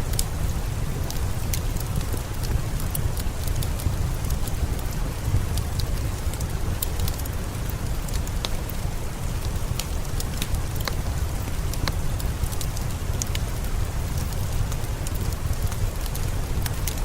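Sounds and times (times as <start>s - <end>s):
fireplace fire crackling: 0.0s - 17.0s
steady rain: 0.0s - 17.0s.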